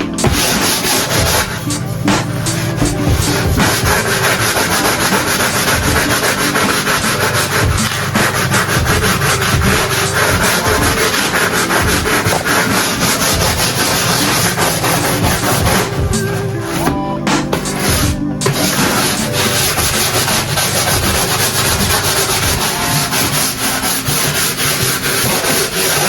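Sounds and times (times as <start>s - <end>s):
scrubbing a hard surface: 0.0s - 26.0s.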